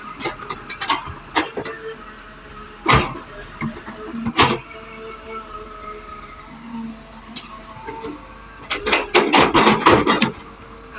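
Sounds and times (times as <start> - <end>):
excavator engine hum: 0.0 - 10.9.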